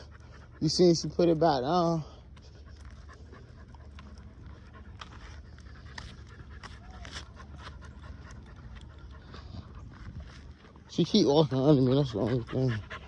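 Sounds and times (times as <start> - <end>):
puppy panting softly: 0.0 - 13.0.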